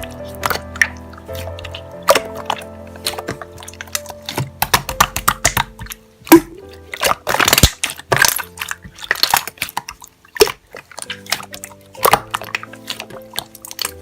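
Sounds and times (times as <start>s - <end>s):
slime squelching and popping: 0.0s - 14.0s
soft background music: 0.0s - 14.0s.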